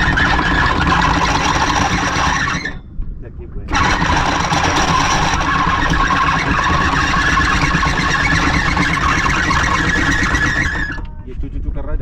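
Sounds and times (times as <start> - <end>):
engine running under load: 0.0 - 2.9, 3.7 - 11.2
constant high whine: 0.0 - 12.0.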